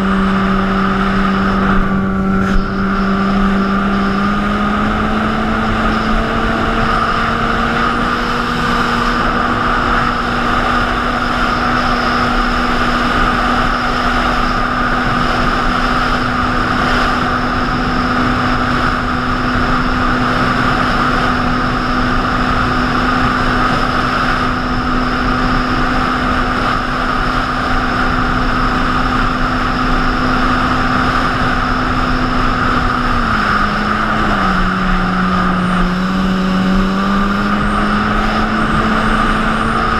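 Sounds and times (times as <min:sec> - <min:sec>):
jet ski engine running: 0:00.0 - 0:39.9
rush of wind and water: 0:00.0 - 0:39.9.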